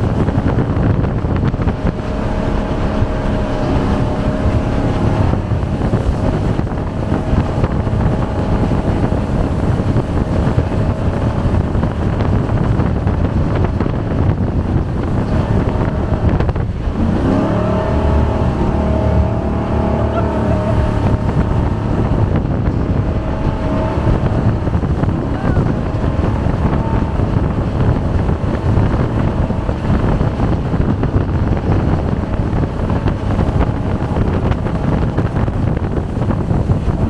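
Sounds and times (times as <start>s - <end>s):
boat engine running hard: 0.0s - 37.0s
wind buffeting microphone: 0.0s - 37.0s.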